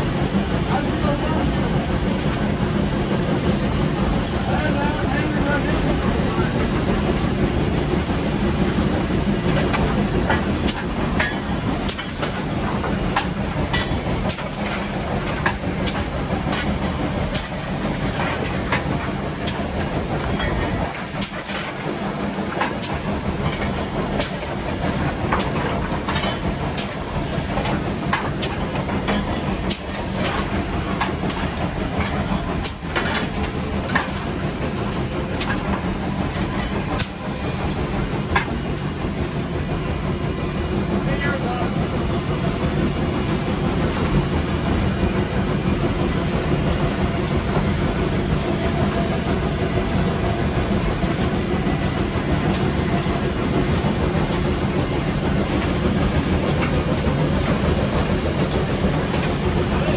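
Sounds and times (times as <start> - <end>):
steam hissing: 0.0 - 59.9
steam locomotive rumble: 0.0 - 59.9.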